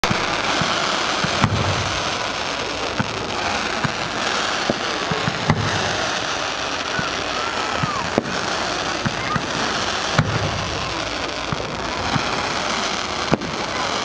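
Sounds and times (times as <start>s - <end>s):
fireworks bangs: 0.0s - 14.0s
fireworks crackling hiss: 0.0s - 14.0s.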